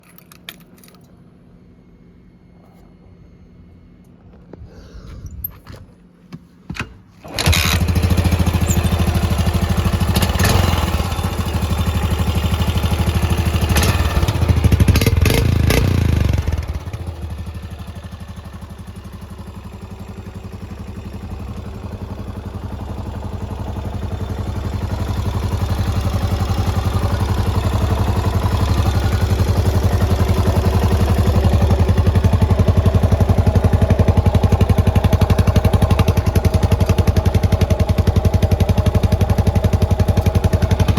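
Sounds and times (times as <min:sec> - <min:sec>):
motorcycle engine starting and running: 0:06.7 - 0:40.9.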